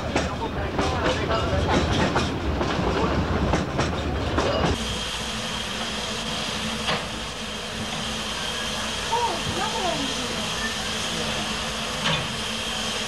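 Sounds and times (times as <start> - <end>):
railway carriage rumbling and clattering: 0.0 - 13.0
steam locomotive hissing: 0.0 - 13.0.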